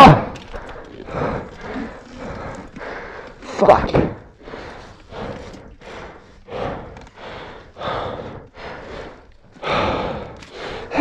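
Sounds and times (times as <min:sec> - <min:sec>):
man breathing hard: 0:00.2 - 0:11.0.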